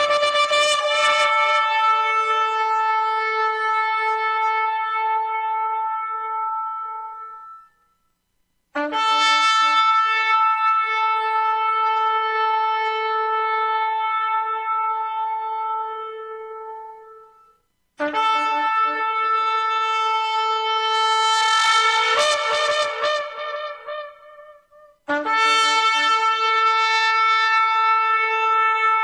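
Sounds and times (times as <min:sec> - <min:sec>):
shofar blasts: 0:00.0 - 0:08.0, 0:08.8 - 0:29.0.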